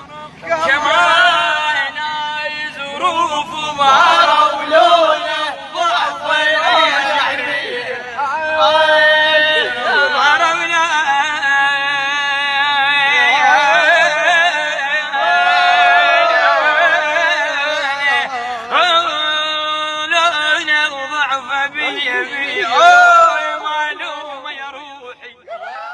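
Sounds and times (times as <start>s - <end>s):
man singing slow melody: 0.0s - 25.9s.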